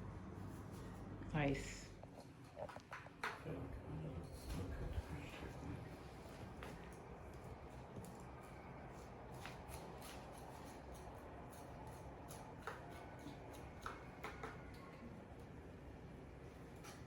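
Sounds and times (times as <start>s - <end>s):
steady low hum: 0.0s - 14.1s.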